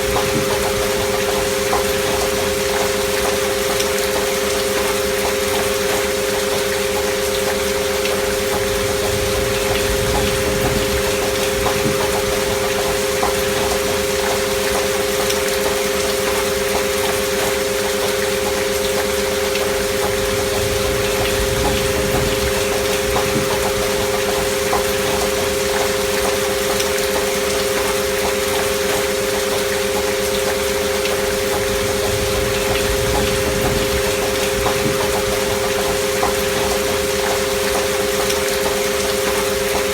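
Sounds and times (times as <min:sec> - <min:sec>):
rain hiss and patter: 0:00.0 - 0:39.9.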